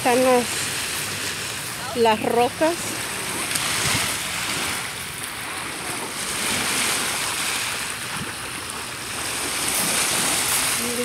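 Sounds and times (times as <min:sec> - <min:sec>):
small waves washing ashore: 0:00.0 - 0:11.0.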